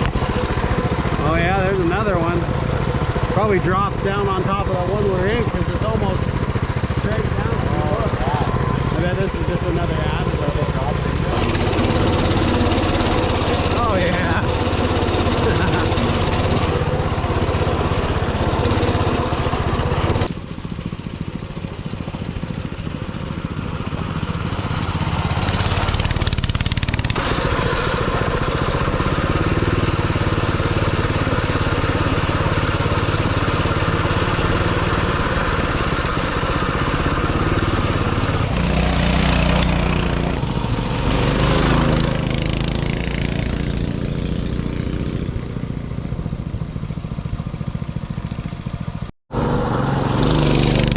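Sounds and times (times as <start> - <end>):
small single-cylinder engine running: 0.0 - 50.9.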